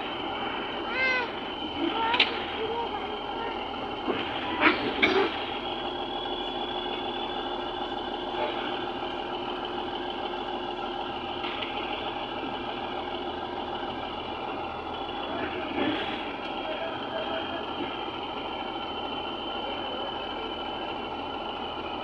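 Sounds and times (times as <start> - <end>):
heavy machine engine idling: 0.0 - 22.0.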